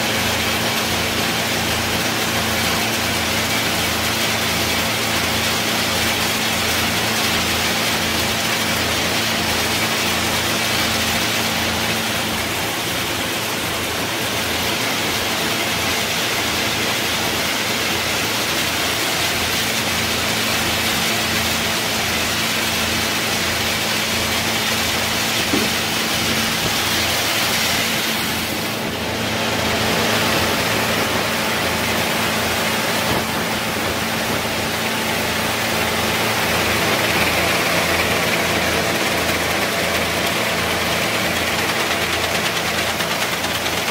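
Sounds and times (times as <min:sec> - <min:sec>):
blower fan rushing: 0:00.0 - 0:43.9
motor hum: 0:05.0 - 0:43.8.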